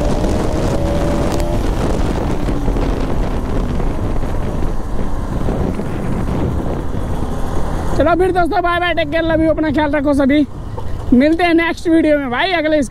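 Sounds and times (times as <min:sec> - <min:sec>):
low rumble of road and engine: 0:00.0 - 0:12.9
wind buffeting microphone: 0:00.0 - 0:12.9.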